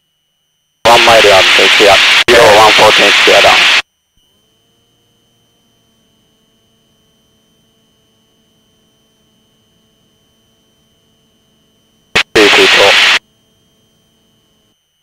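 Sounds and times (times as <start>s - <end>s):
thin high whine: 0.9s - 4.7s, 5.6s - 15.0s.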